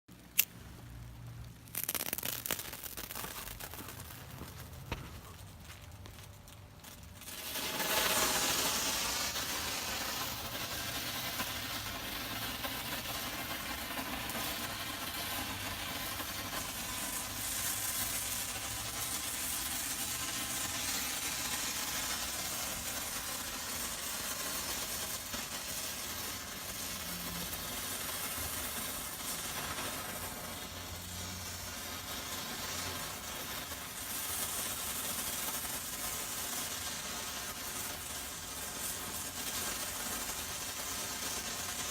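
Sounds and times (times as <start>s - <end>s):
flare burning with hiss: 0.1s - 41.9s.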